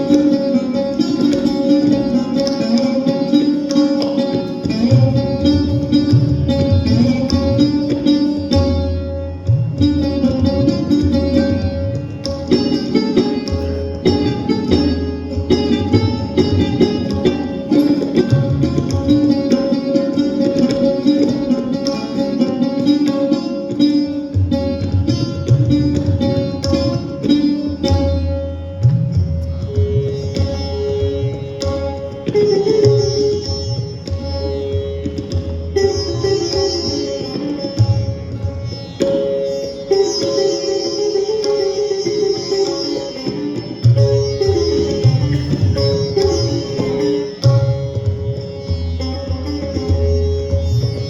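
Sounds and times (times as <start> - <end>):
plucked string instruments: 0.0 - 51.0
sitar melody: 0.0 - 51.0
tabla drumming: 0.0 - 51.0.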